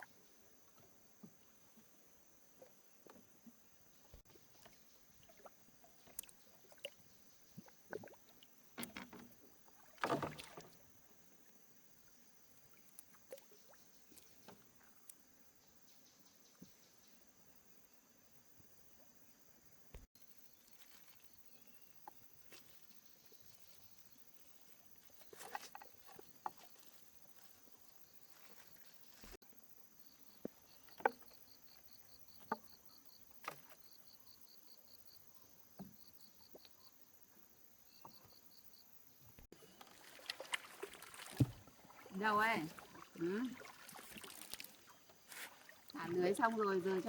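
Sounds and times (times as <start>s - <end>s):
faint insect chirping: 0.0s - 47.0s.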